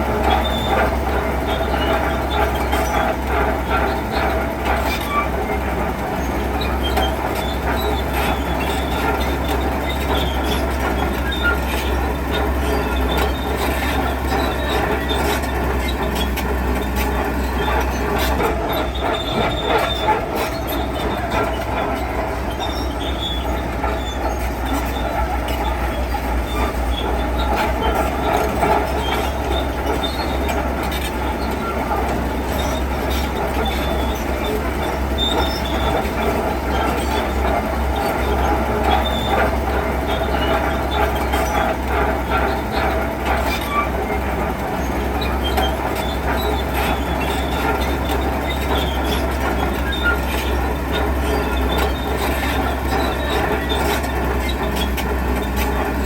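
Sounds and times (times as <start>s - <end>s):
diesel machinery rumble: 0.0s - 56.0s
metallic squealing and clanking: 0.1s - 56.0s.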